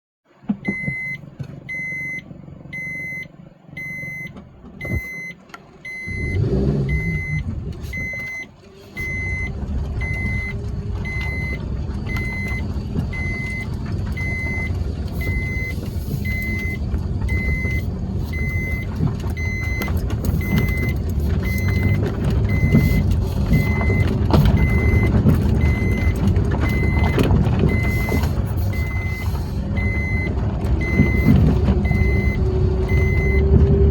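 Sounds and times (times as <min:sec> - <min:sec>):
vehicle warning beeper: 0:00.6 - 0:33.6
vehicle engine running: 0:00.7 - 0:33.9.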